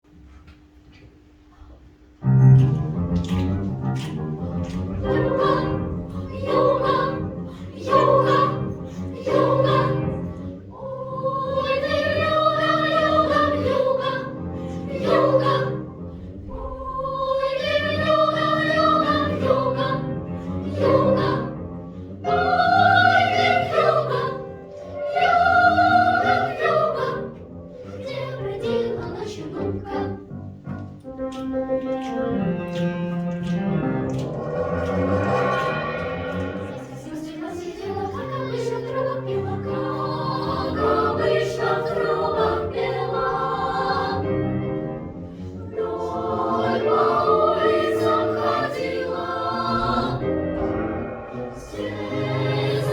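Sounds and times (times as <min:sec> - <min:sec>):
piano accompaniment: 0:02.2 - 0:52.9
children's choir singing: 0:02.6 - 0:52.9.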